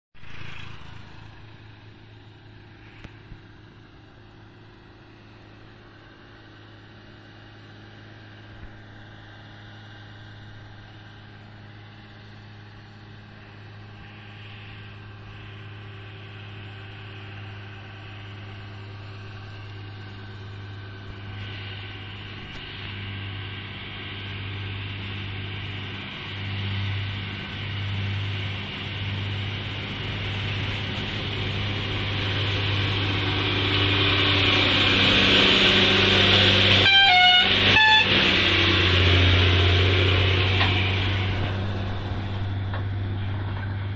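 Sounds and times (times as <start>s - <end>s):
crane diesel engine droning: 0.2s - 43.9s.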